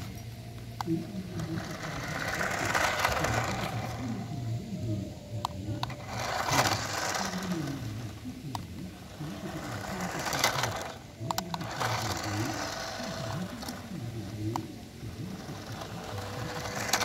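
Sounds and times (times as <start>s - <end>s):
toy car motor whining: 0.0s - 17.0s
wheels crunching over gravel: 0.0s - 17.0s.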